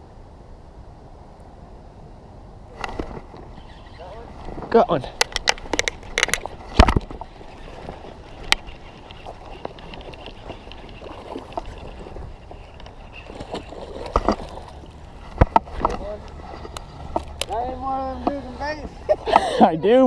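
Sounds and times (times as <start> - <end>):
water sloshing and splashing: 2.8 - 19.6.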